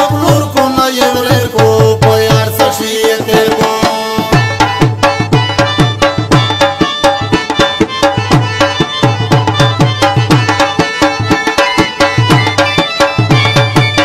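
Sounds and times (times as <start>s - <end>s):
hand drums playing fast beat: 0.0s - 14.0s.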